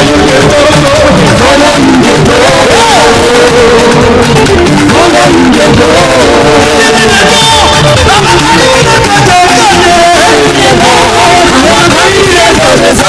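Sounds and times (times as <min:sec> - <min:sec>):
gospel singing over full band: 0:00.0 - 0:13.0.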